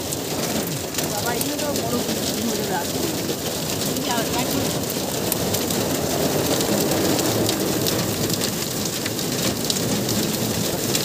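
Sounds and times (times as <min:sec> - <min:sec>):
rain and hail on a vehicle roof: 0:00.0 - 0:11.0.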